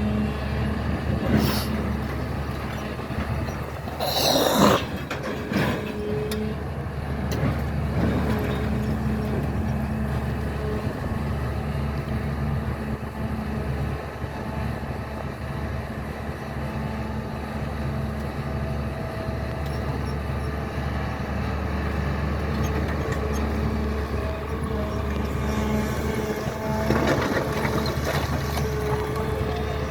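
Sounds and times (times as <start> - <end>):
excavator diesel engine humming: 0.0 - 29.9.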